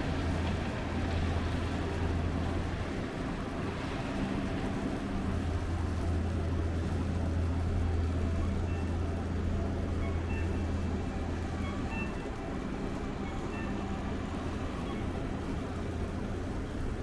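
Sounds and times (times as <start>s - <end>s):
city street traffic: 0.0s - 17.0s
vehicle engine hum: 0.0s - 17.0s.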